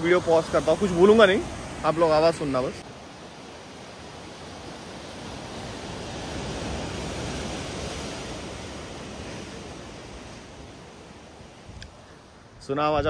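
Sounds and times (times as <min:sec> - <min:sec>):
sea surf on rocky shore: 0:00.0 - 0:13.0.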